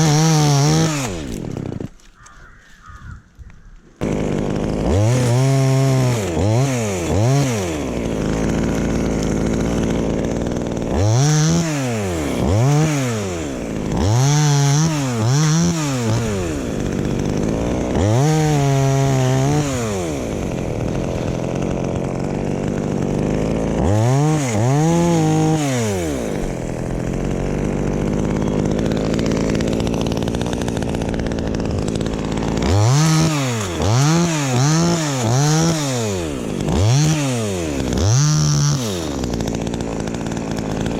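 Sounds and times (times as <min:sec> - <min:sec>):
chainsaw revving: 0:00.0 - 0:03.0, 0:03.9 - 0:40.9.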